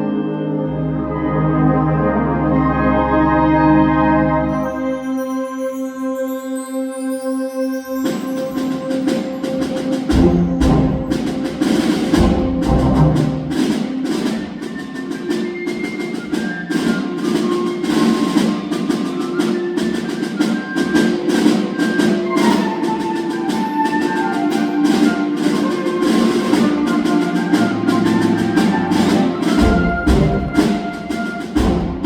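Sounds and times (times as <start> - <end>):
wind band playing: 0.0 - 7.1, 7.9 - 32.0
sharp percussion strokes: 4.5 - 32.0.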